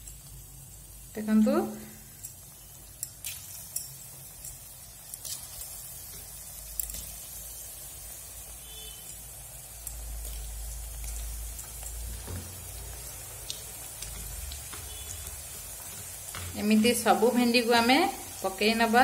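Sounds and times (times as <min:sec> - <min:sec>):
food deep-frying in hot oil: 0:00.0 - 0:19.0.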